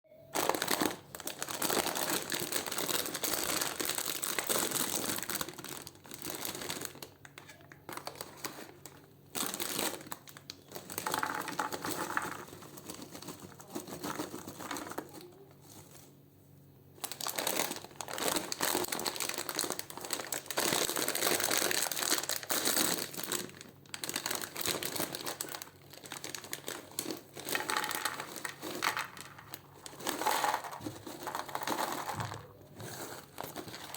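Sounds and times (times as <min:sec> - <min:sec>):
plastic snack packets crinkling: 0:00.3 - 0:16.2, 0:17.0 - 0:33.9.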